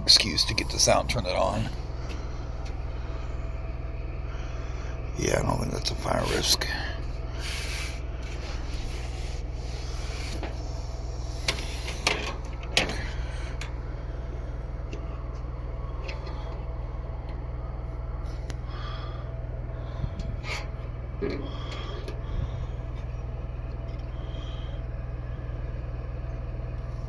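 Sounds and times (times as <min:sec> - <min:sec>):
electric fan heater humming: 0:00.0 - 0:27.0.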